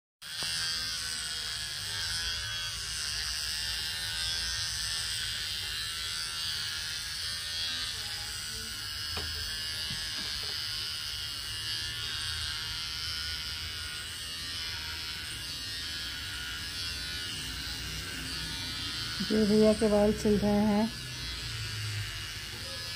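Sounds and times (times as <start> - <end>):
electric hair clippers buzzing: 0.2 - 22.9.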